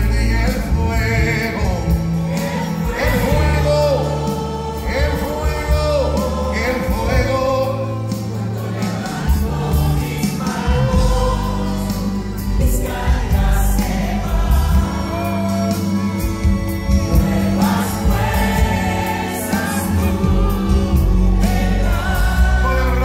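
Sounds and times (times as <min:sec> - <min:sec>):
band with drums and keyboard: 0:00.0 - 0:23.0.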